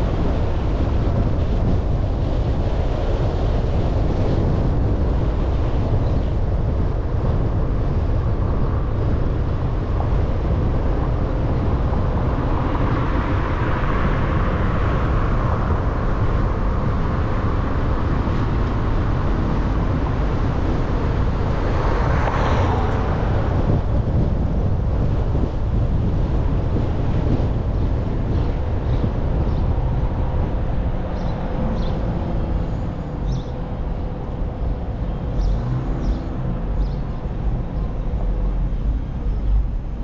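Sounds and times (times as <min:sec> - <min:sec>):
car driving rumble: 0:00.0 - 0:40.0.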